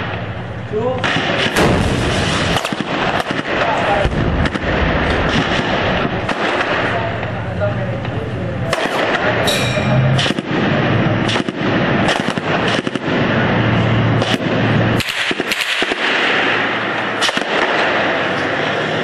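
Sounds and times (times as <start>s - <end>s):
low rumble of tanks moving: 0.0s - 19.0s
gunshots: 1.0s - 7.3s, 8.6s - 19.0s.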